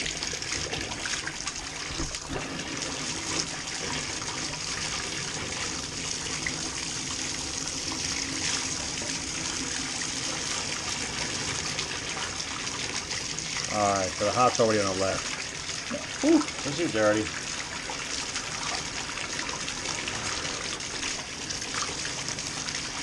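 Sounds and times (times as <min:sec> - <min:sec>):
water pouring into bathtub: 0:00.0 - 0:23.0.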